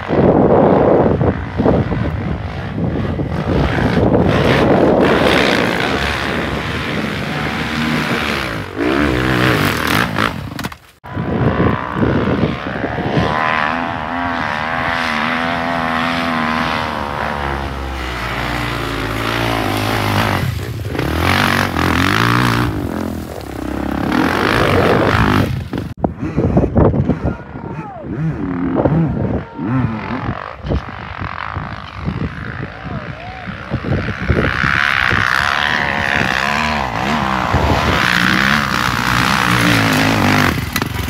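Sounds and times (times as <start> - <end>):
dirt bike engine revving: 0.0 - 26.0, 28.2 - 32.8, 33.4 - 41.0.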